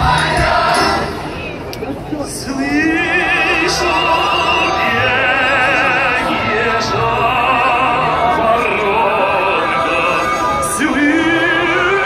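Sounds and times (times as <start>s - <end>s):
musical accompaniment: 0.0s - 1.9s, 2.6s - 12.0s
person singing operatically: 2.2s - 12.0s.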